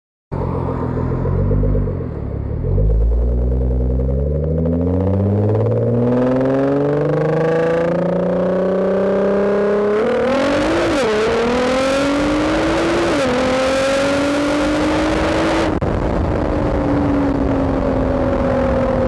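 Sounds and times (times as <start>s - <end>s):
car engine accelerating: 0.3s - 19.0s.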